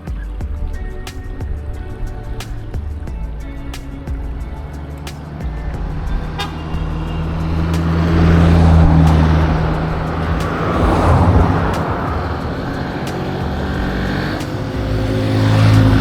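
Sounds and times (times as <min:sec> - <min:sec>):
car engine running: 0:00.0 - 0:16.0
road noise: 0:00.0 - 0:16.0.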